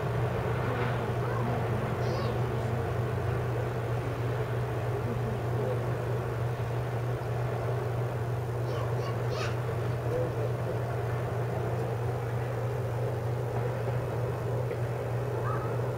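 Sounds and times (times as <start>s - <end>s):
low hum: 0.0s - 15.9s
road traffic: 0.0s - 15.9s.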